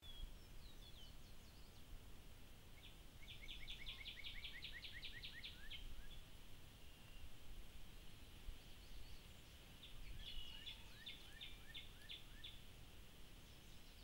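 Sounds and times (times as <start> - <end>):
faint outdoor background noise: 0.0 - 14.0
songbird singing: 0.0 - 14.0.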